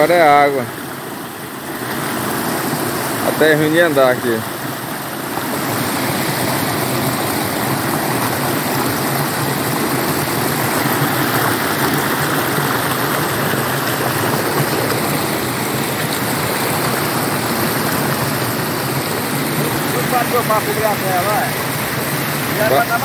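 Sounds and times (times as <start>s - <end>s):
floodwater rushing over a ledge: 0.0s - 23.0s.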